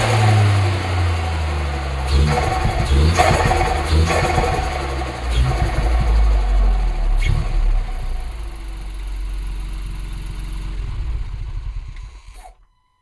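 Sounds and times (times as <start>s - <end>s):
car engine revving: 0.0s - 12.6s
car engine idling: 0.0s - 12.7s.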